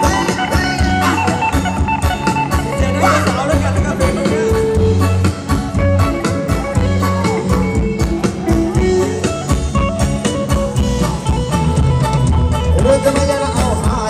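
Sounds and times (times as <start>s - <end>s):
live band playing dance music: 0.0s - 14.0s.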